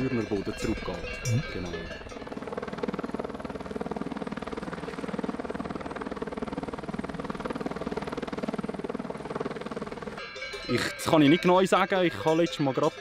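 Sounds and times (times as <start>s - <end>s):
helicopter rotor beating: 0.0s - 13.0s.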